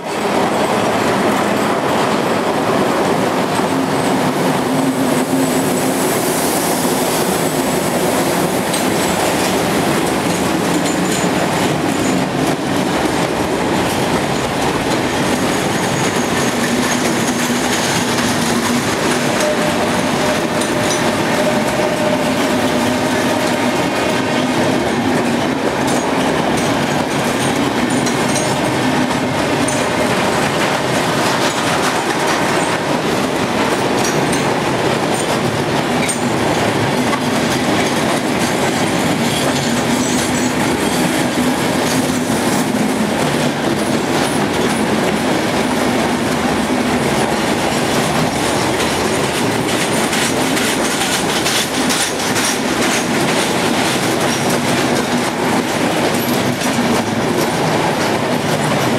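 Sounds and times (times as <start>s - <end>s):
freight train rolling past: 0.0s - 58.9s
steel wheels rattling on rails: 0.0s - 58.9s.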